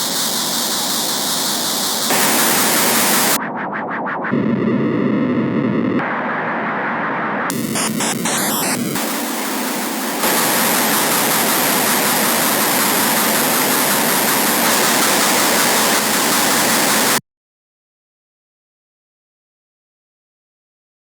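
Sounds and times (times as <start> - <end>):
distorted static noise wall: 0.0 - 17.2.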